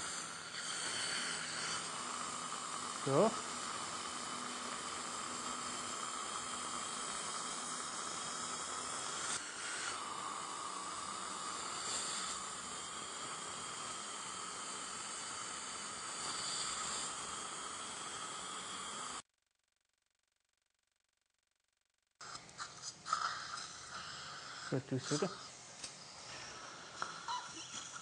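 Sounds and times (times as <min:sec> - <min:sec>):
steady hiss: 0:00.0 - 0:19.2, 0:22.2 - 0:28.0.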